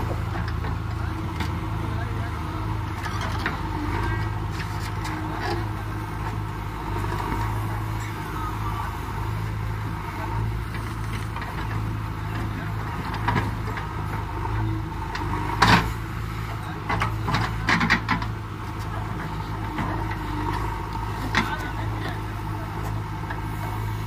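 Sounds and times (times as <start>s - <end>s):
backhoe digging earth: 0.0s - 24.0s
diesel engine running: 0.0s - 24.0s.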